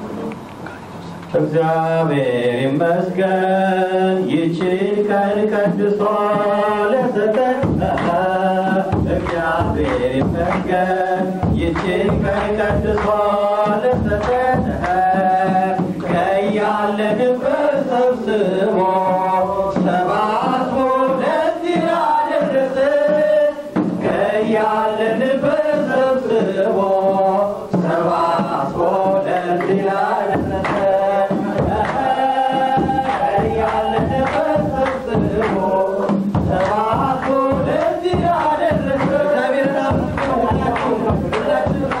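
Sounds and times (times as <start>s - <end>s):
congregation singing a hymn: 1.3s - 42.0s
large drum beating: 4.2s - 42.0s.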